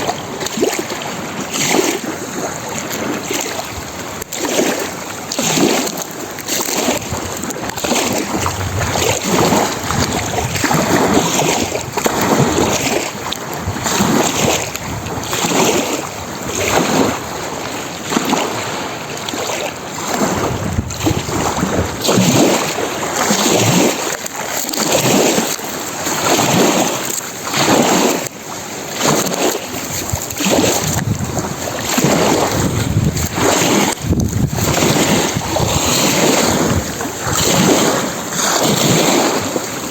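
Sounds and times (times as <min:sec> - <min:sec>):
waves splashing on shore: 0:00.0 - 0:39.9.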